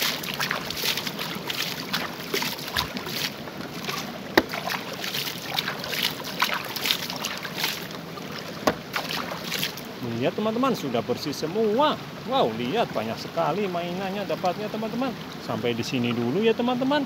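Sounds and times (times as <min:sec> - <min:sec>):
water splashing and sloshing: 0:00.0 - 0:16.4.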